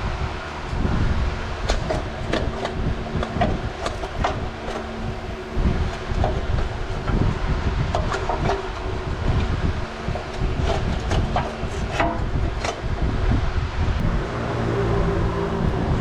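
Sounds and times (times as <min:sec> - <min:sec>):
faint hum: 0:00.0 - 0:16.0
steady low rumble: 0:00.0 - 0:16.0.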